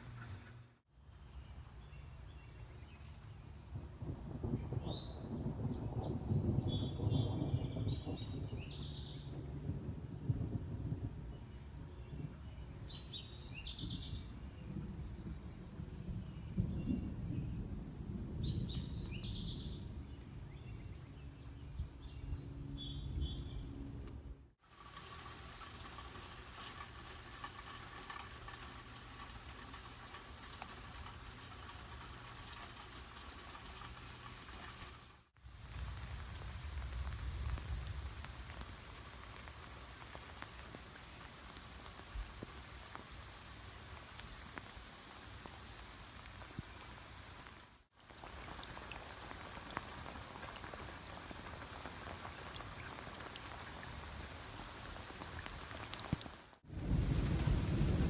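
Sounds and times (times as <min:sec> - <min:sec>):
low wind rumble: 0:02.4 - 0:40.4, 0:48.2 - 0:58.0
rain falling: 0:03.4 - 0:19.9, 0:24.6 - 0:58.0.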